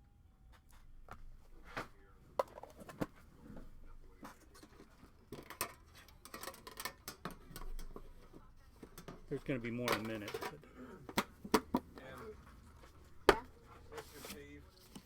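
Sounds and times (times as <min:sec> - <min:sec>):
trading cards and packaging rustling: 0:00.6 - 0:15.0.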